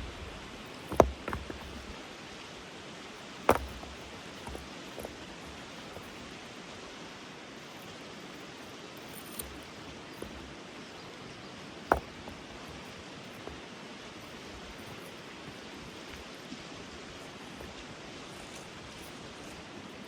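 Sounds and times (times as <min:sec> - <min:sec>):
stream flowing water: 0:00.0 - 0:20.0.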